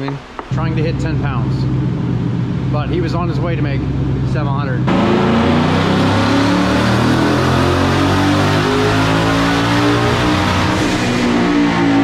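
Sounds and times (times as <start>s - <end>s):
car engine running on dyno: 0.5s - 12.0s.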